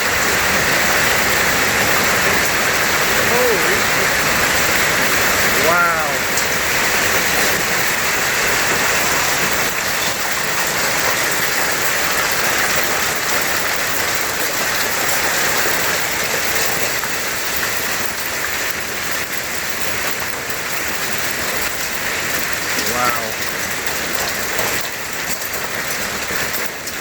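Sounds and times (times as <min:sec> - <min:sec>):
hail and heavy rain pelting: 0:00.0 - 0:27.0.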